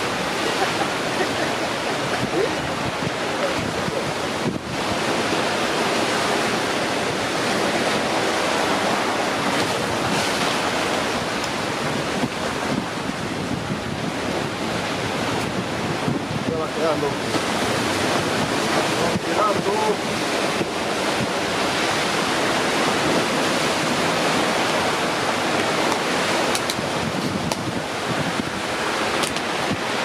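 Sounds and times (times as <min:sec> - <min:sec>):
surf rushing: 0:00.0 - 0:30.0
wind on microphone: 0:00.0 - 0:30.0.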